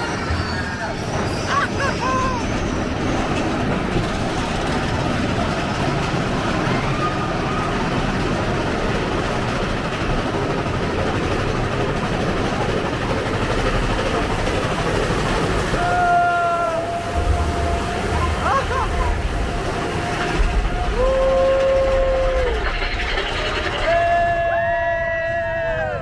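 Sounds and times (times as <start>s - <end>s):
roller coaster rumble and rattle: 0.0s - 26.0s.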